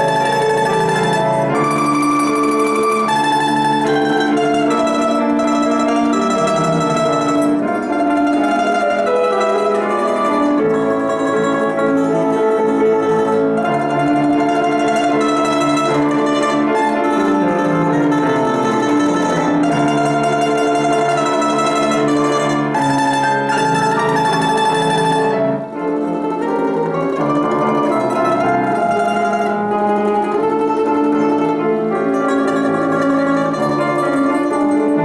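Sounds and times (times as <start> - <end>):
domra melody: 0.0 - 35.0
piano accompaniment: 0.0 - 35.0.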